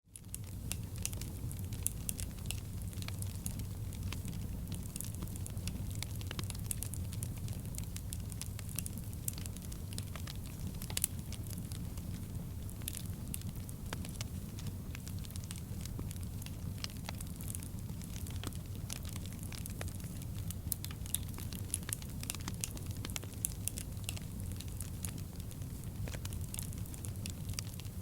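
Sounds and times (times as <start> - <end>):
wood fire crackling: 0.2 - 28.0.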